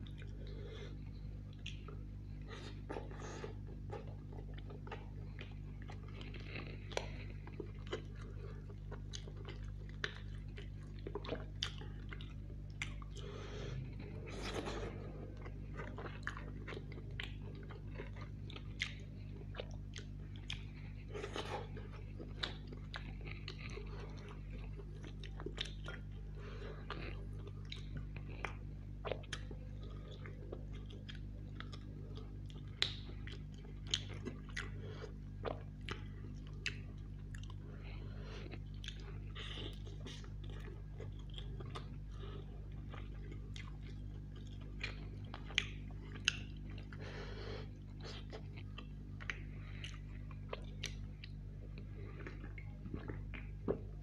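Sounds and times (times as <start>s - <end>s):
chewing and biting food: 0.0s - 54.0s.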